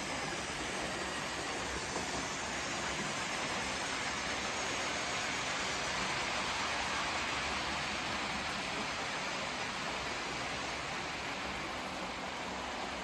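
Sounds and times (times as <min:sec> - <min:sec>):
model trains whirring on track: 0:00.0 - 0:13.0.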